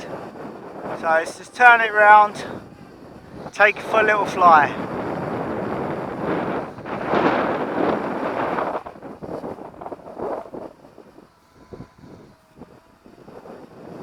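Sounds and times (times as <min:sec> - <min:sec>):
faint steady propeller whine: 0:00.0 - 0:14.0
wind buffeting microphone: 0:00.0 - 0:14.0.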